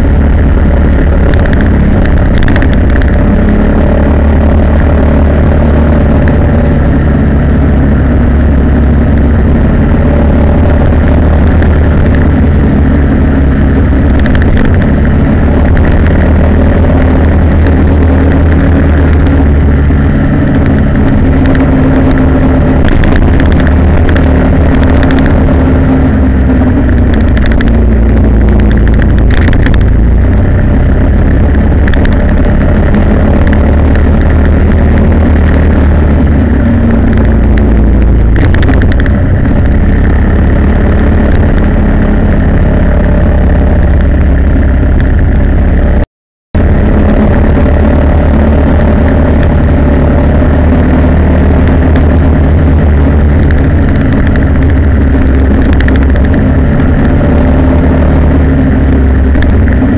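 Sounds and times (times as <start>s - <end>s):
heavy low rumble: 0.0s - 59.9s
vehicle engine running: 0.0s - 59.9s.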